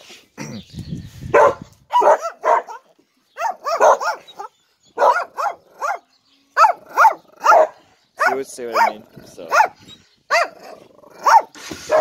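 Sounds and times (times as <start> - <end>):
dog barking: 1.3 - 12.0.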